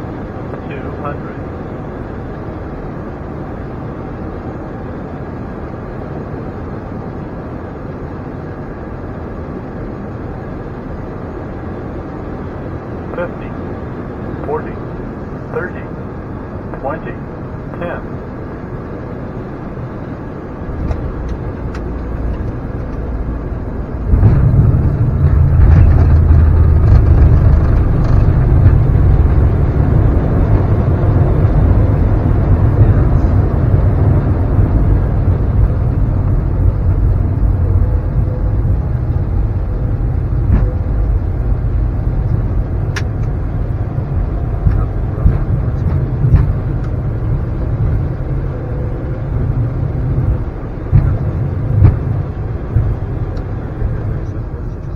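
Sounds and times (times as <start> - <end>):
jet engines reverse thrust roar: 0.0 - 54.9.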